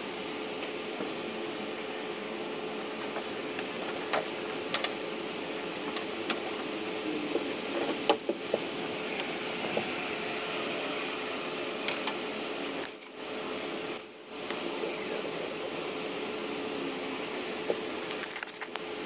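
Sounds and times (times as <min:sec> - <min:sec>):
fan-like hum: 0:00.0 - 0:19.0.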